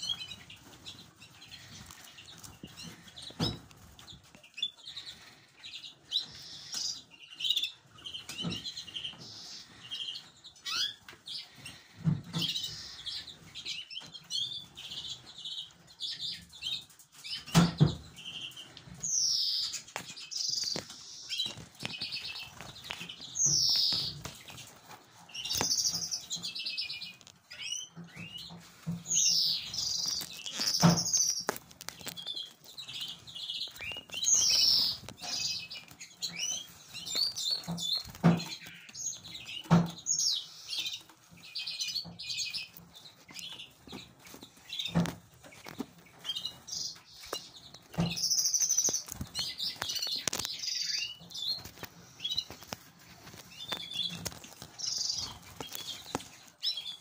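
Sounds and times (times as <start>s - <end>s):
canaries chirping and trilling: 0.0s - 57.0s.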